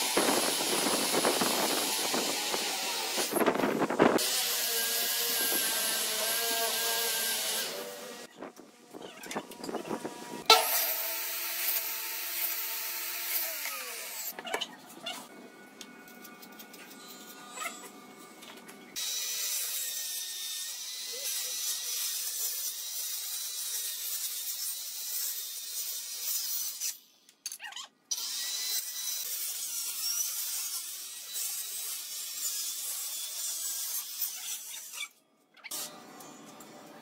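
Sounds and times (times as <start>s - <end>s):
circular saw cutting wood: 0.0s - 8.3s, 9.7s - 14.4s, 19.0s - 27.0s, 28.1s - 37.0s.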